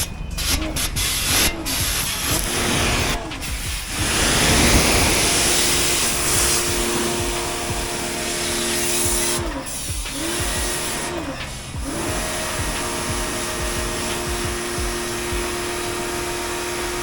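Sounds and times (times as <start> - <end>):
pressure washer water jet hissing: 0.0 - 17.0.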